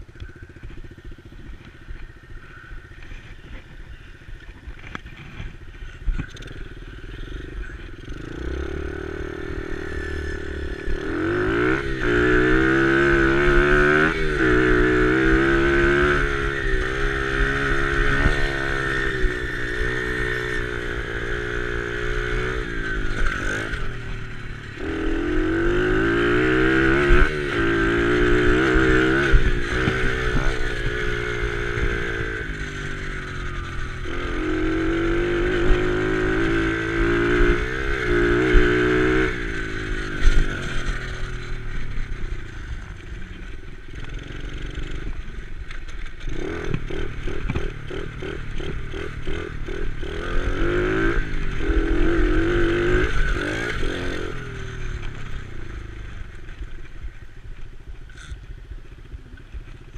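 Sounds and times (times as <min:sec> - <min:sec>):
dirt bike engine revving: 0:04.9 - 0:57.2.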